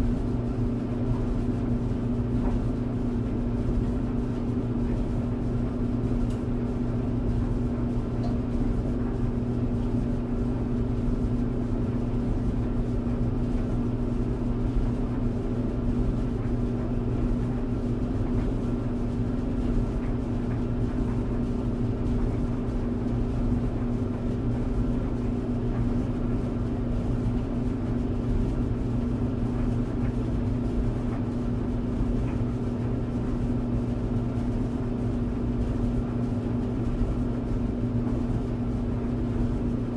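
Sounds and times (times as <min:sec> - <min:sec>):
clothes dryer running: 0:00.0 - 0:39.9.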